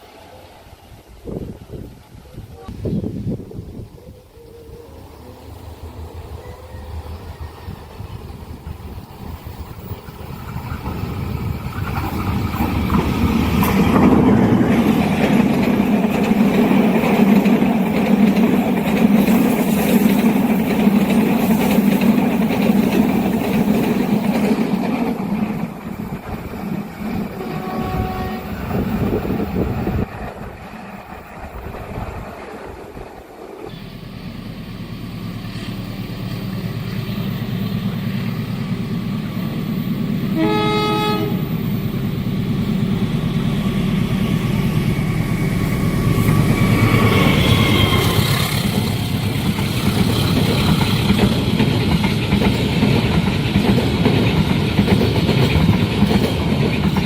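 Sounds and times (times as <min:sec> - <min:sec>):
train rumbling past on rails: 0:00.0 - 0:57.0.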